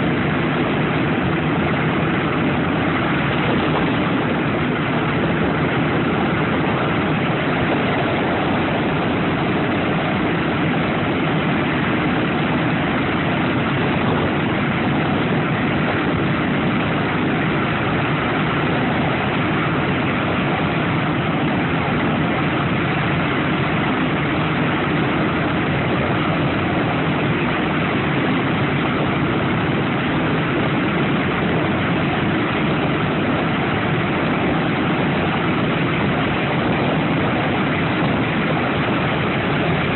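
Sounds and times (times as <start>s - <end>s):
aircraft radial engines droning: 0.0s - 39.9s.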